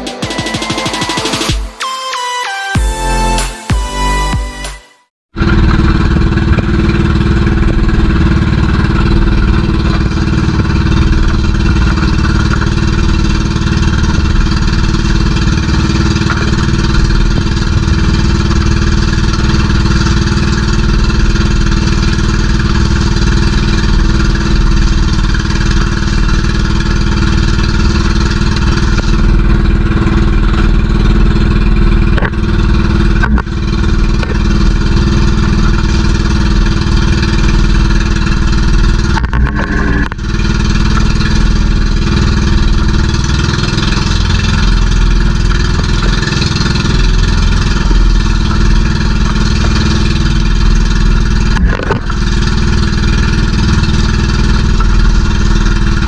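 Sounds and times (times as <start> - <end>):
boat engine running: 5.3 - 56.0.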